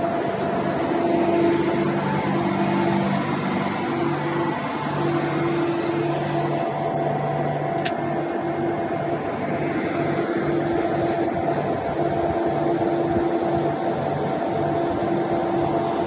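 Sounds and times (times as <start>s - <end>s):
engine and machinery drone: 0.0s - 16.0s.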